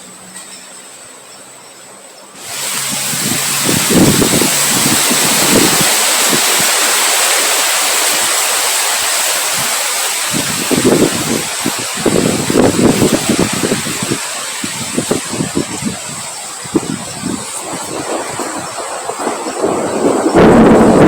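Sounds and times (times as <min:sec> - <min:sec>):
strong wind rushing: 0:02.4 - 0:21.0.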